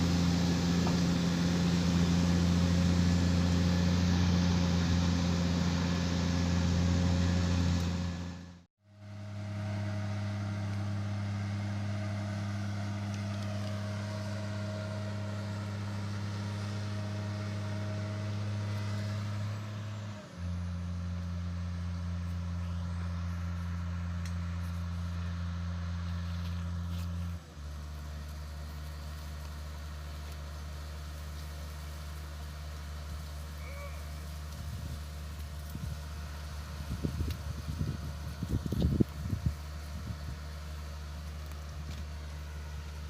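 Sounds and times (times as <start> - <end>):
diesel engine droning: 0.0 - 43.0.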